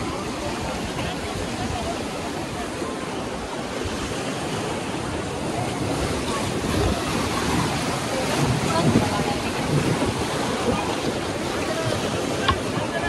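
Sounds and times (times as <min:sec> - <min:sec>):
river water rushing: 0:00.0 - 0:13.0
wind buffeting microphone: 0:00.0 - 0:13.0.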